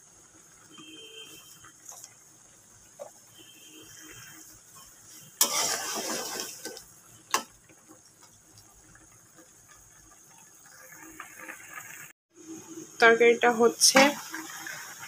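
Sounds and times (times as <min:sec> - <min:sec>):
curry bubbling in a pan: 0:00.0 - 0:15.0
spatula stirring and sizzling: 0:00.0 - 0:15.0.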